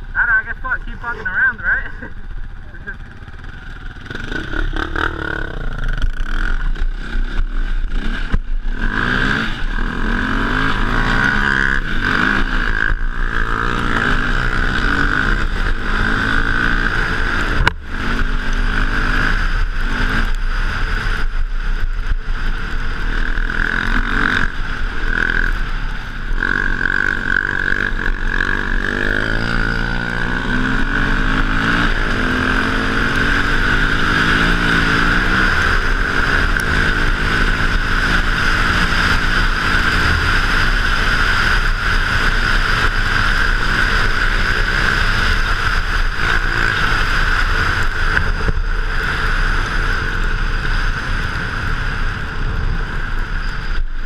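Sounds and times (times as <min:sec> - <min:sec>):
dirt bike engine revving: 0:00.0 - 0:53.8.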